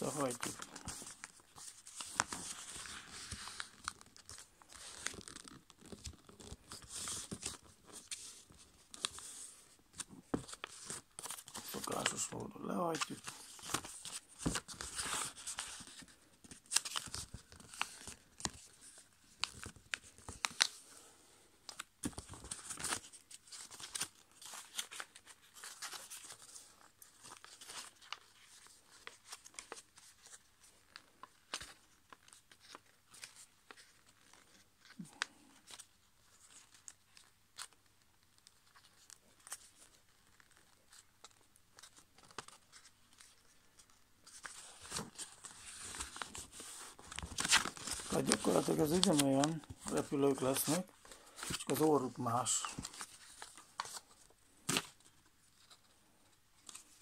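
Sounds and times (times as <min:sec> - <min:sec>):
paper crinkling rustles: 0:00.0 - 0:57.0.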